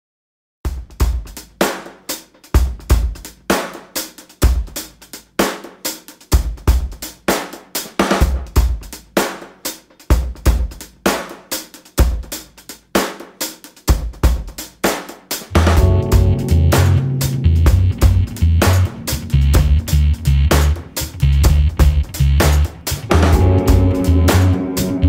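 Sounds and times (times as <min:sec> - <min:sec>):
music with drum beat: 0:00.7 - 0:25.0.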